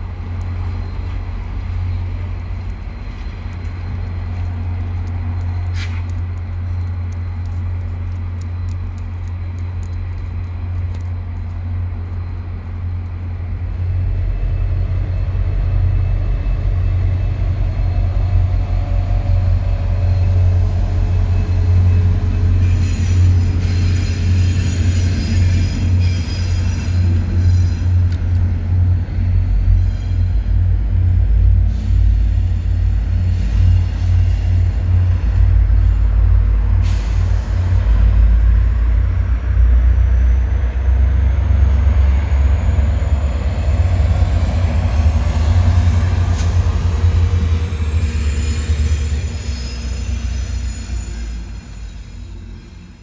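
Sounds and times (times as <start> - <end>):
passenger train rumbling: 0.0 - 53.0.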